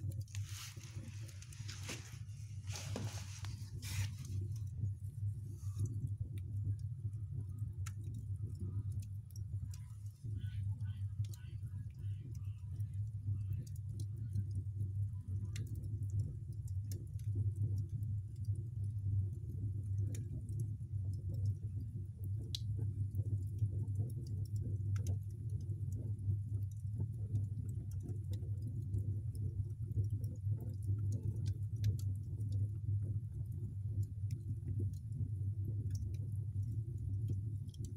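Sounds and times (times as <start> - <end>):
wood fire crackling and rumbling: 0.0 - 37.9.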